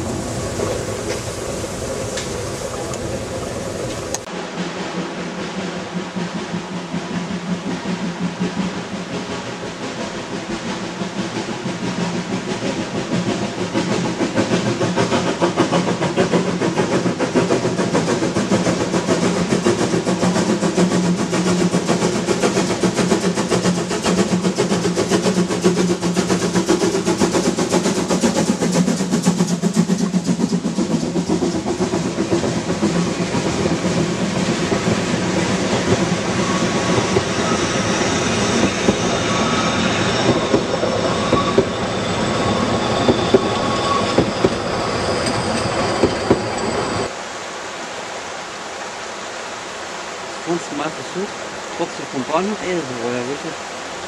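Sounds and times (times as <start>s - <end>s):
wheels clattering on rail joints: 0.0s - 47.1s
steam locomotive chuffing and hissing: 0.0s - 54.0s.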